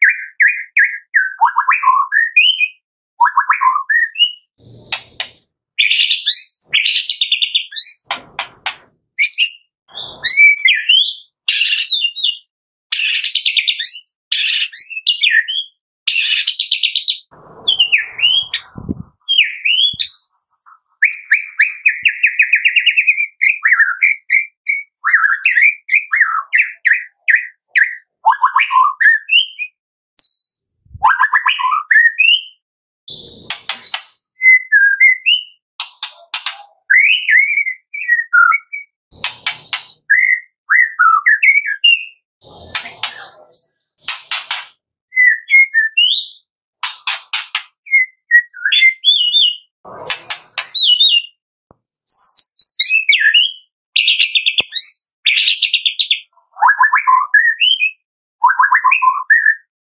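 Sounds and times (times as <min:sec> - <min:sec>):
bird singing whistles and trills: 0:00.0 - 0:04.5, 0:05.8 - 0:08.2, 0:09.2 - 0:20.3, 0:21.0 - 0:35.6, 0:36.4 - 0:42.2, 0:45.1 - 0:46.5, 0:47.8 - 0:51.4, 0:52.1 - 0:59.7.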